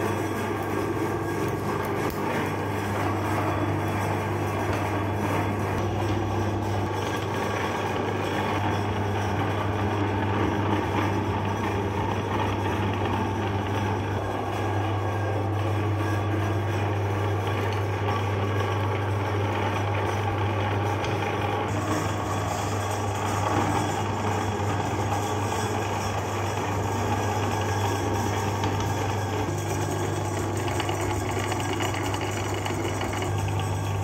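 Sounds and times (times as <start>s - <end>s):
meat grinder motor humming: 0.0s - 34.0s.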